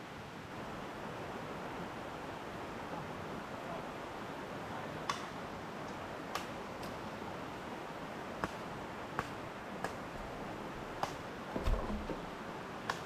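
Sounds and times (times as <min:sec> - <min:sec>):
river rushing: 0:00.1 - 0:13.0.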